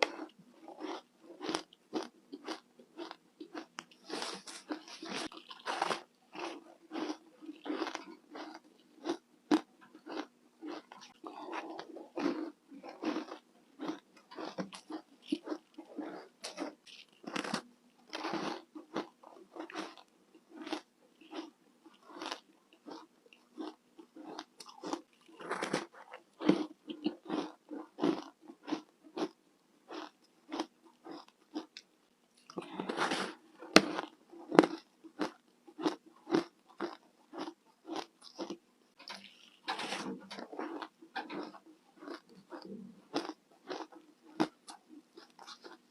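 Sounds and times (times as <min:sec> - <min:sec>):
ice crunching being chewed: 0:00.0 - 0:45.9.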